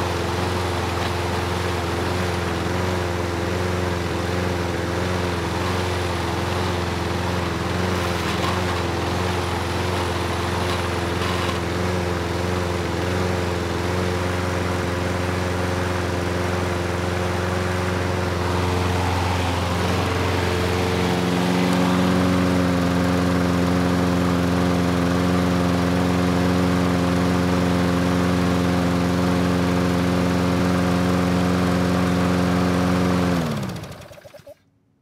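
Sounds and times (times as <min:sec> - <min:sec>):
lawn mower engine running: 0:00.0 - 0:34.5.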